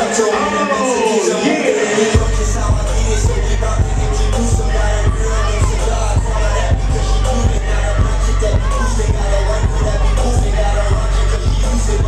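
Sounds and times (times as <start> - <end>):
loud hip hop music: 0.0 - 12.0.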